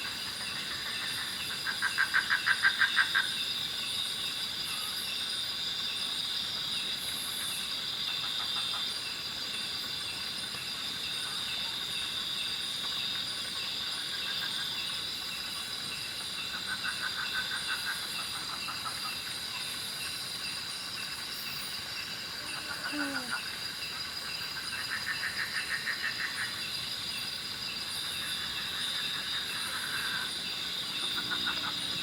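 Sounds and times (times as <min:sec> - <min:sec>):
fast high insect ticking call: 0:00.0 - 0:32.0
insects droning: 0:00.0 - 0:32.0
loud pulsed insect trill: 0:00.0 - 0:32.0.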